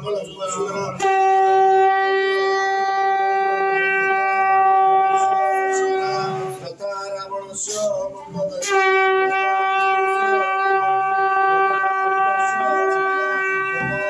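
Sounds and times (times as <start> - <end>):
conch shell blown: 0.6 - 6.8, 8.6 - 14.0.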